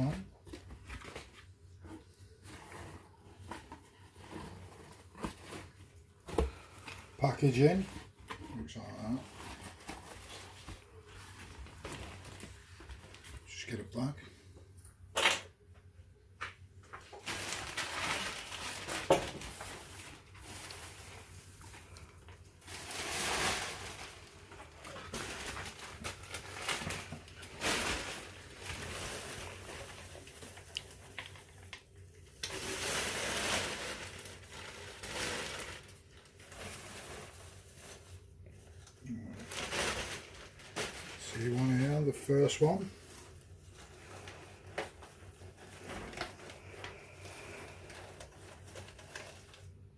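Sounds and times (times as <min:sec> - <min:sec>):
packaging rustling and crinkling: 0:00.0 - 0:13.6, 0:16.8 - 0:49.9.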